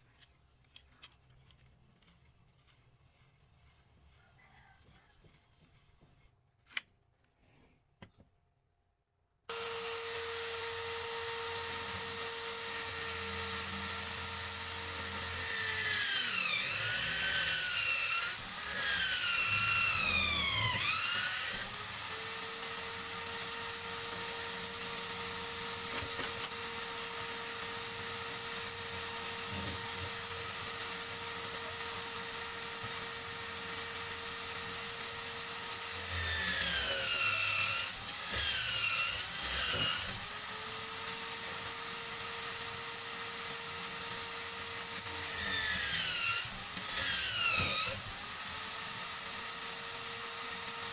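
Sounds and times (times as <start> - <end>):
small power drill running: 9.5 - 50.9.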